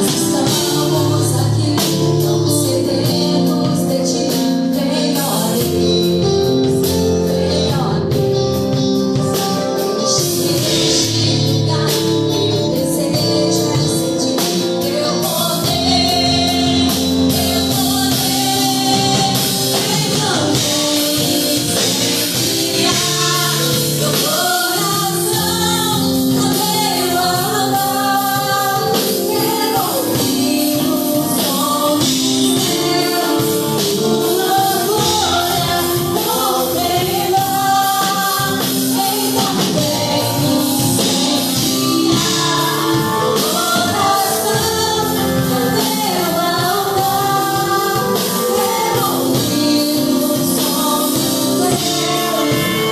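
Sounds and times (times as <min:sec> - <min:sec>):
band with drums: 0:00.0 - 0:52.9
voices singing: 0:09.4 - 0:52.9.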